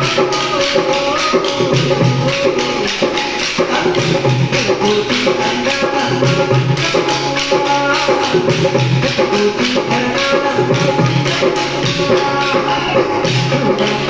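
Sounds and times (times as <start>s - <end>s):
music with melody: 0.0s - 14.0s.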